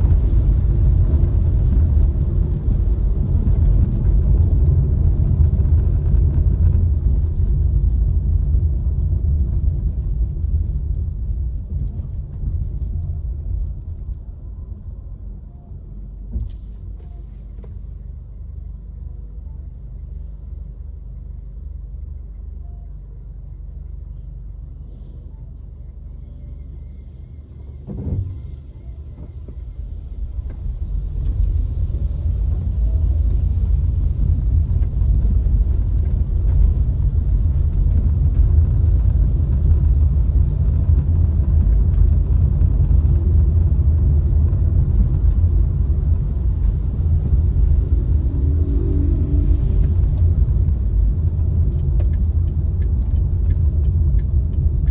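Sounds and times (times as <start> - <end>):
car driving rumble: 0.0 - 54.9.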